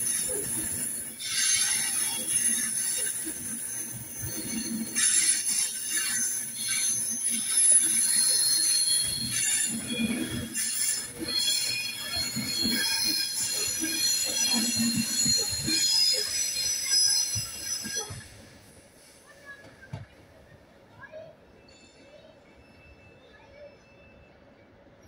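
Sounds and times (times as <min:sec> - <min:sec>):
train wheels squealing: 0:00.0 - 0:19.9, 0:21.1 - 0:25.0
wheels rumbling on rail: 0:00.0 - 0:23.4.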